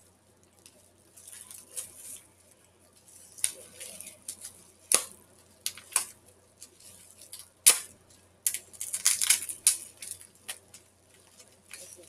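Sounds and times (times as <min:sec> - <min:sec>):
crinkling packaging rustle: 0:00.0 - 0:12.0.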